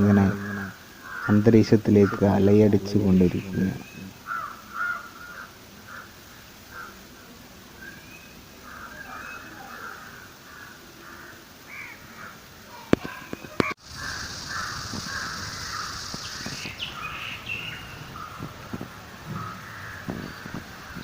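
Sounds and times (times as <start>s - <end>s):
crows cawing: 0.0s - 7.3s, 8.5s - 21.0s
other birds: 0.0s - 21.0s
steady high hiss: 0.0s - 21.0s.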